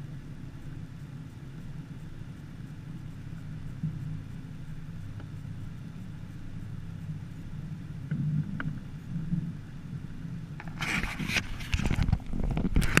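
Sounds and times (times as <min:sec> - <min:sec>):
boat motor humming: 0:00.0 - 0:13.0
faint ticks: 0:00.0 - 0:13.0.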